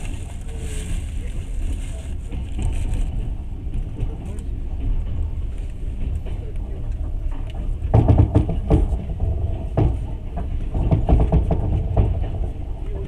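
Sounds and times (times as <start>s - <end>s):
train rumbling: 0.0s - 13.0s
knocks and clatter: 1.7s - 13.0s.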